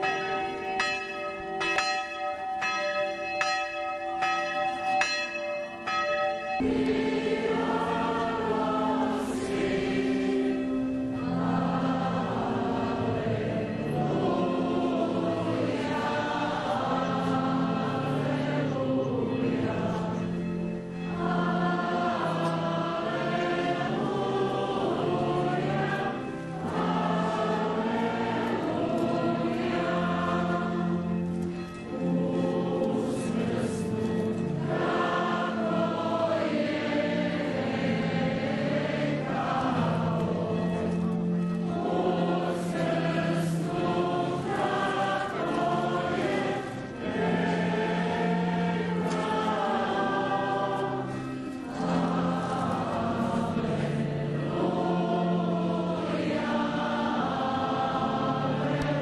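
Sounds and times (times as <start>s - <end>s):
bells ringing: 0.0s - 56.0s
choir singing a hymn: 0.0s - 59.0s.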